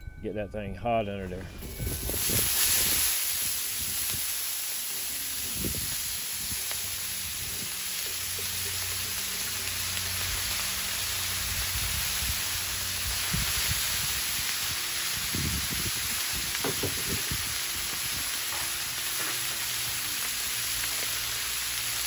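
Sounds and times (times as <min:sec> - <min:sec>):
cabbage sizzling on griddle: 0:01.6 - 0:22.0.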